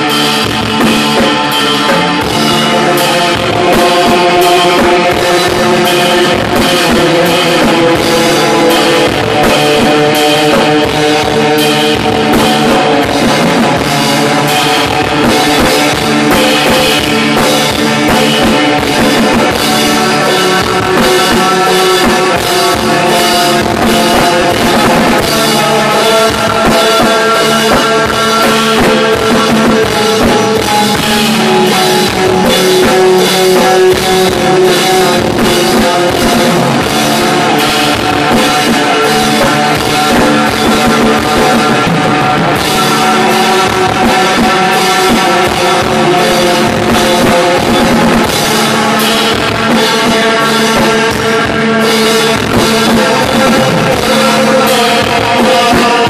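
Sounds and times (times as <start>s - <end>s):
drums and cymbals: 0.0s - 56.0s
electric guitars sustained chords: 0.0s - 56.0s.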